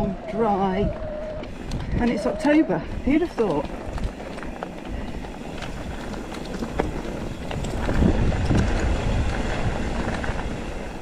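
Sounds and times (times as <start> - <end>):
bike tyre rumble: 0.0 - 11.0
wind rushing over microphone: 0.0 - 11.0
bike clicks and rattles: 1.0 - 11.0.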